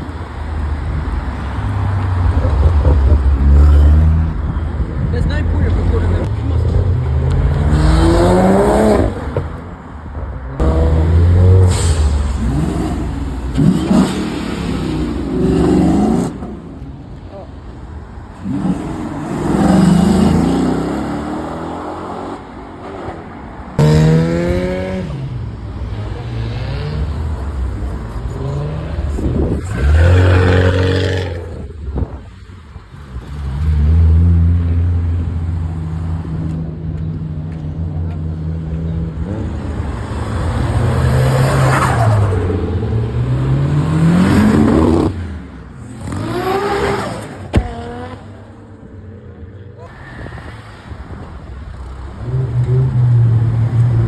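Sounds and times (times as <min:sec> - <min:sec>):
cars revving and driving past: 0:00.0 - 0:54.0.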